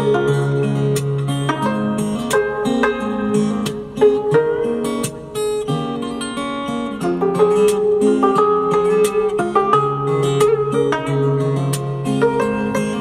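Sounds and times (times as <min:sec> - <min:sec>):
acoustic guitar accompaniment: 0:00.0 - 0:13.0
plucked zither melody: 0:00.0 - 0:13.0.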